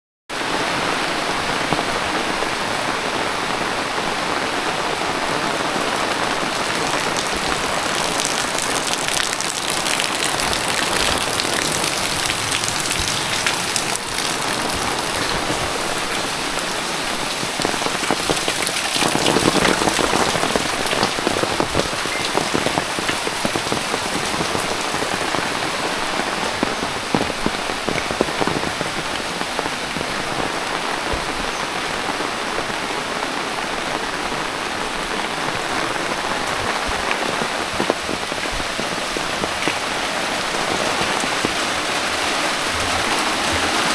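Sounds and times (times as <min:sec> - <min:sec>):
heavy rain falling: 0:00.3 - 0:43.9.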